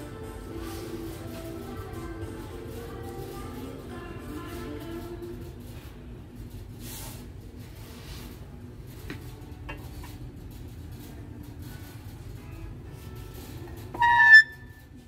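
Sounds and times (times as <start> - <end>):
shop interior hum: 0.0 - 15.0.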